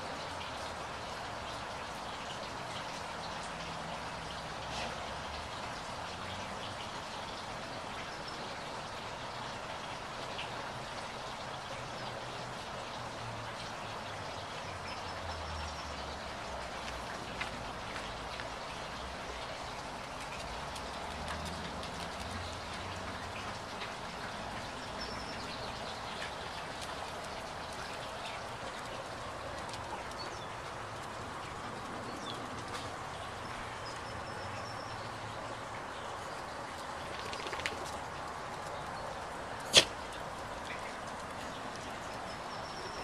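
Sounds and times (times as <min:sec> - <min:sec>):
rushing outdoor noise: 0:00.0 - 0:43.0.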